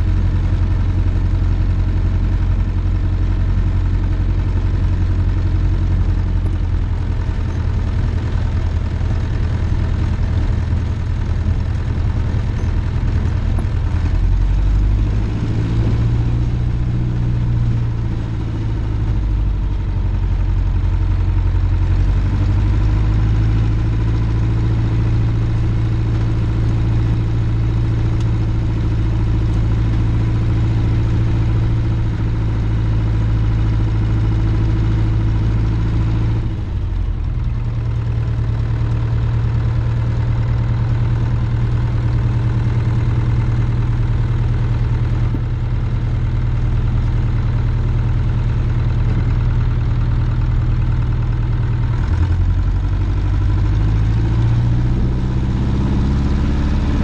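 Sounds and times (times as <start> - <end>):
propeller plane engine idling: 0.0 - 57.0.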